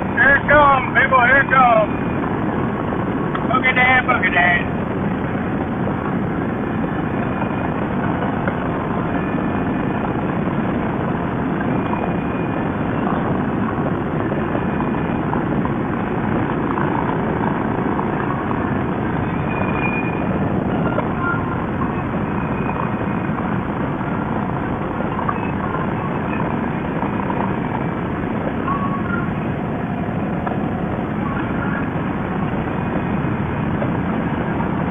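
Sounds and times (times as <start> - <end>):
motorcycle engine drone: 0.0 - 34.9
wind rush: 0.0 - 34.9.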